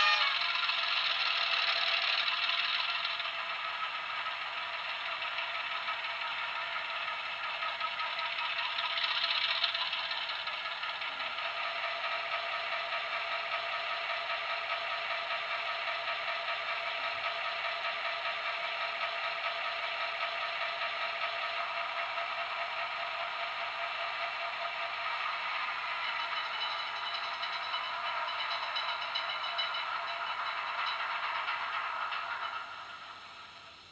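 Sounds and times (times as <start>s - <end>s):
model locomotive diesel engine sound: 0.0s - 33.9s.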